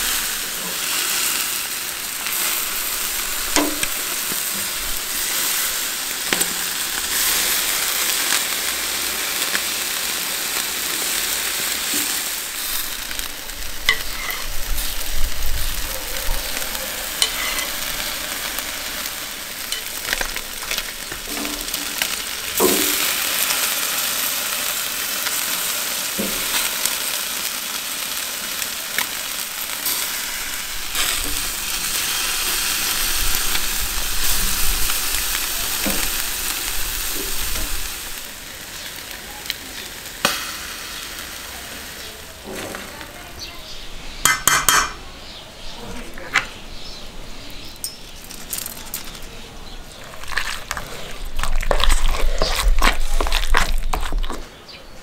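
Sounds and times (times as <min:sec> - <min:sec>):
meat sizzling on a grill: 0:00.0 - 0:54.8.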